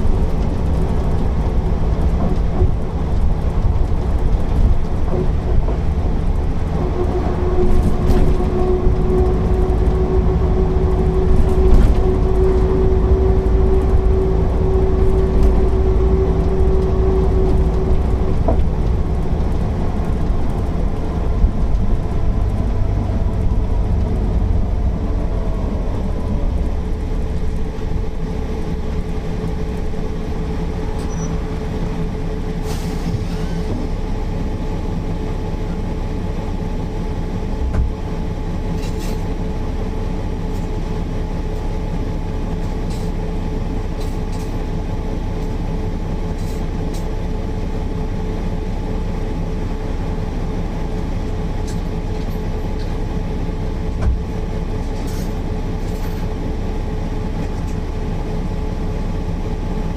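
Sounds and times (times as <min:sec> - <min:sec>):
bus engine drone with whine: 0:00.0 - 0:59.9.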